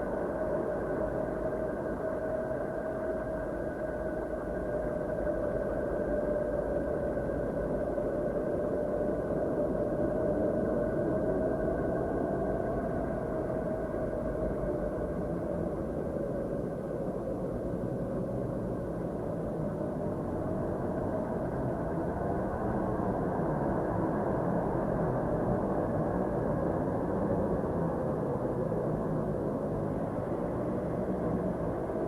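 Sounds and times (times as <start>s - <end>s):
droning space ambience: 0.0s - 32.0s.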